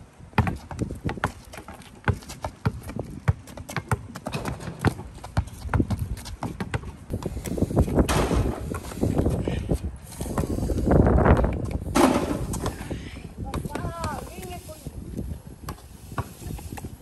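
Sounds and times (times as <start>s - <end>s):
basketballs bouncing on asphalt: 0.0s - 17.0s.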